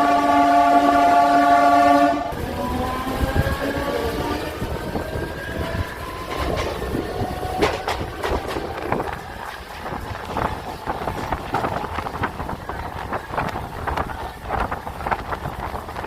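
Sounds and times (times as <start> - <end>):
train wheels clattering over rail joints: 2.3 - 16.0.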